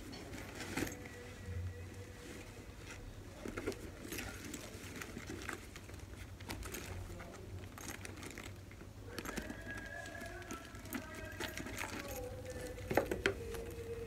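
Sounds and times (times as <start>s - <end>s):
paper and cloth rustling: 0.0s - 14.0s.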